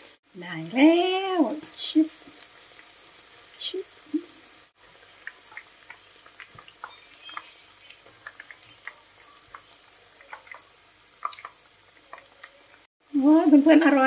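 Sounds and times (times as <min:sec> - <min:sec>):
deep-frying sizzle with pops: 0:00.0 - 0:14.0.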